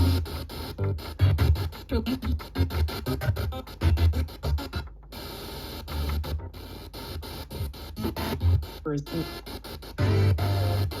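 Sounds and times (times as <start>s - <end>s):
music with heavy bass beat: 0.0s - 4.9s, 5.9s - 11.0s.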